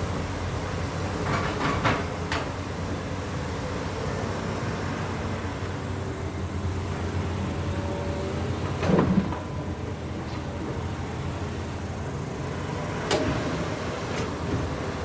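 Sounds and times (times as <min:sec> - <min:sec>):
heavy machinery engine running: 0:00.0 - 0:15.0.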